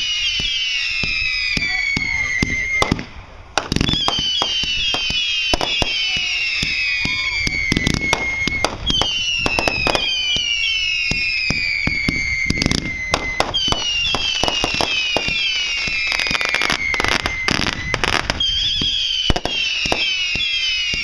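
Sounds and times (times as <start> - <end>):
firework pops and crackling: 0.0 - 21.0
firework whistles falling in pitch: 0.0 - 21.0.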